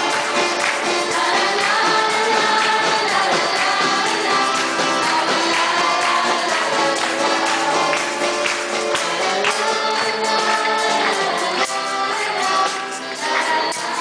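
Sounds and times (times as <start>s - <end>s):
tambourine shaking: 0.0s - 14.0s
voices singing worship song: 0.0s - 14.0s.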